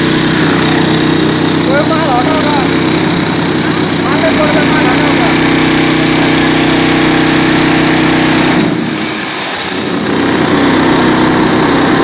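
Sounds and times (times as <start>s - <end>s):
concrete cutting saw running: 0.0s - 12.0s.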